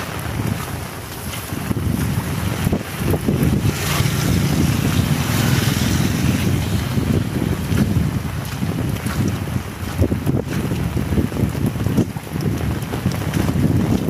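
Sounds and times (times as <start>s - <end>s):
heavy rain falling: 0.0s - 14.0s
wind buffeting microphone: 0.0s - 14.0s.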